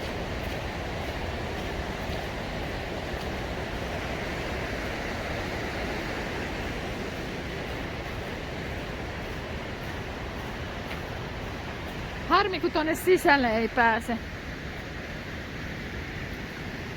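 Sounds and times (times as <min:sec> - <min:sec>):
river rapids roaring: 0:00.0 - 0:16.9.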